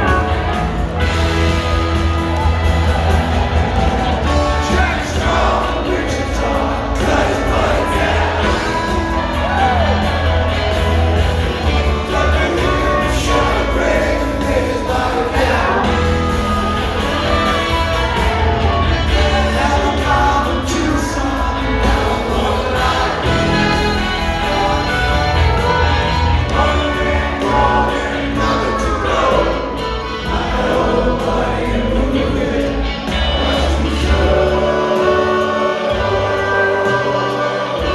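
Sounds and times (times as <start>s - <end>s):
live rock band playing: 0.0s - 37.9s
person singing: 4.2s - 37.9s.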